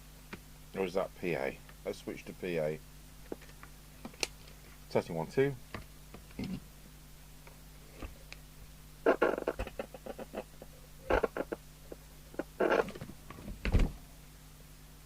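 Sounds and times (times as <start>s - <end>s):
low mains hum: 0.0s - 15.0s.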